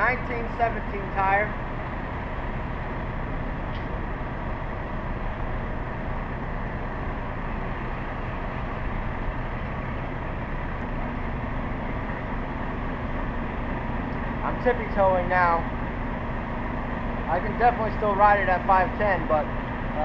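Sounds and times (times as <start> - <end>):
distant idling trucks and traffic: 0.0 - 20.0.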